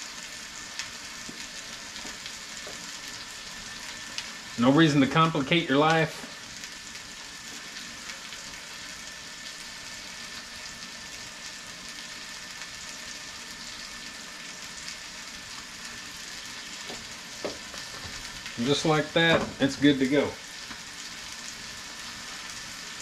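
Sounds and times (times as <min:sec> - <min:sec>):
food sizzling in skillets: 0:00.0 - 0:23.0.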